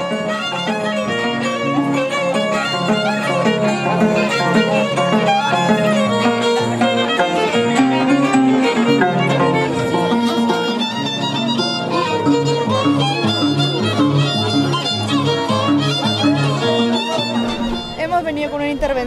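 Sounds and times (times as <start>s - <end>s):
instrumental violin music: 0.0s - 18.8s.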